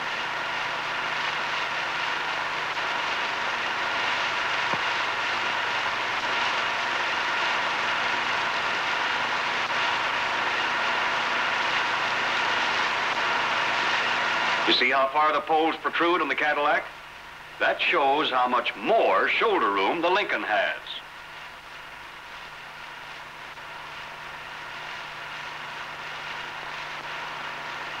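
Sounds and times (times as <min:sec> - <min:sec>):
film soundtrack hiss: 0:00.0 - 0:28.0.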